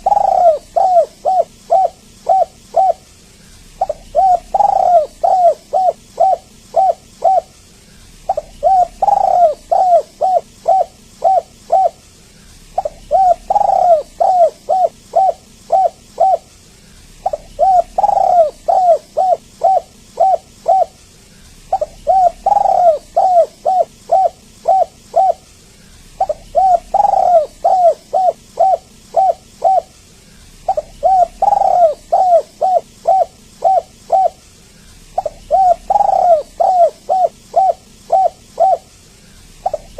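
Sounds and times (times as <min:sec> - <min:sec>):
dove cooing: 0:00.0 - 0:30.0, 0:30.6 - 0:39.9.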